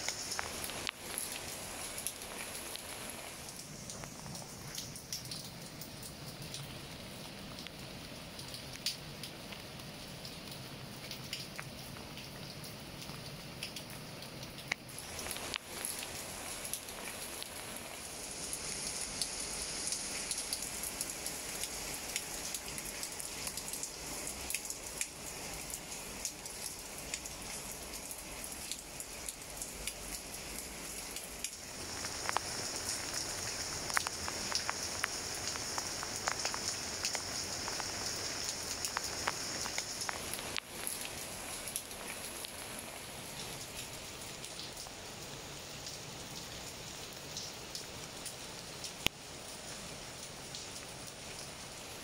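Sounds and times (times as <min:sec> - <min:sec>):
rain falling on leaves: 0:00.0 - 0:52.0.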